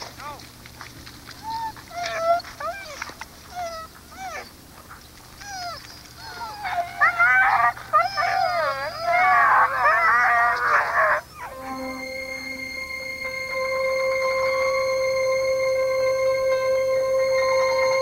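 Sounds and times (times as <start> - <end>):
sled dogs yipping and howling: 1.4 - 18.0.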